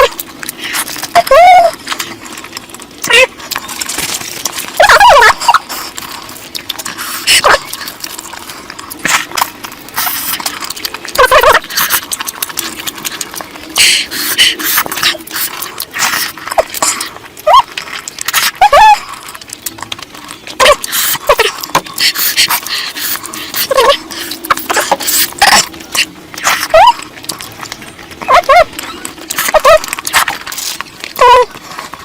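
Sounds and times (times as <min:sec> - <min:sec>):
slurping: 0:00.0 - 0:32.0
wet chewing: 0:00.0 - 0:32.0.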